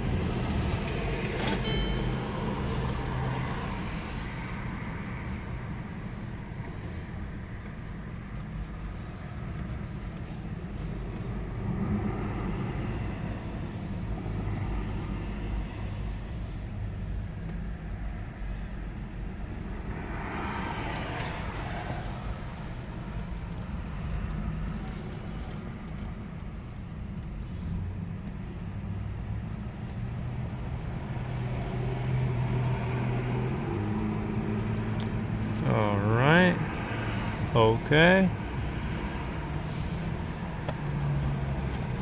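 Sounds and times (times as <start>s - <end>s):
low vehicle rumble: 0.0s - 42.0s.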